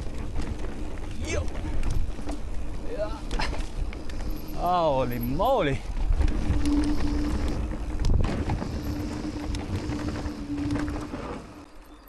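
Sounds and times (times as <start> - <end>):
bicycle tyres rumbling on trail: 0.0 - 12.0
wind: 0.0 - 12.0.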